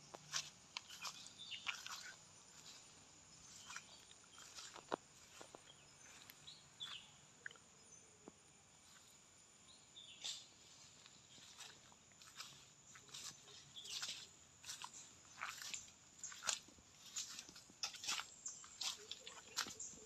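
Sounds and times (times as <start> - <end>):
faint bird chirps: 0.4 - 20.0.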